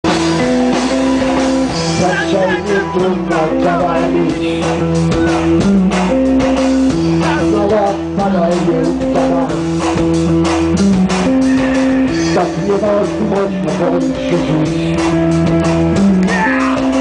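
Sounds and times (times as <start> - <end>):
punk rock band playing live: 0.0 - 17.0.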